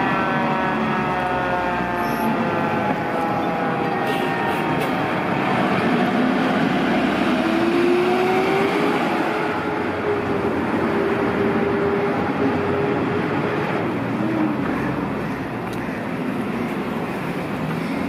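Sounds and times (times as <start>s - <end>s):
fire truck siren: 0.0s - 18.0s
truck engine passing: 0.0s - 18.0s.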